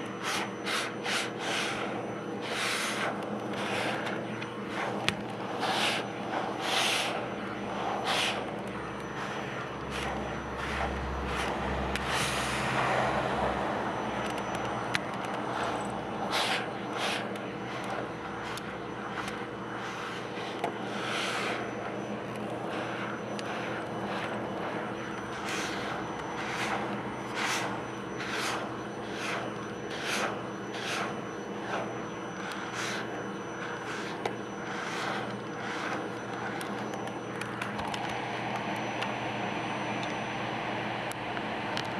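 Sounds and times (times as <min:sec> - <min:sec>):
vacuum cleaner suction: 0:00.0 - 0:41.1
low hum: 0:01.6 - 0:39.2.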